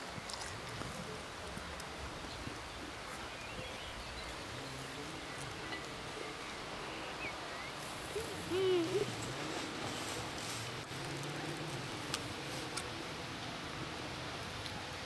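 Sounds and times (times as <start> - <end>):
open-air background hiss: 0.0 - 15.0.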